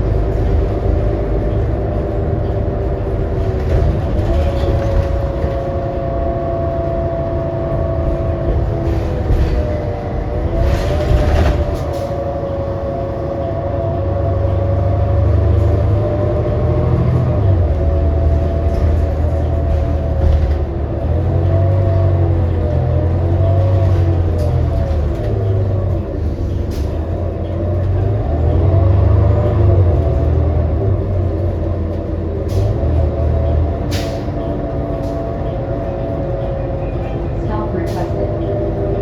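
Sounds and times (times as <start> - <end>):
bus drivetrain rumble and whine: 0.0 - 39.0.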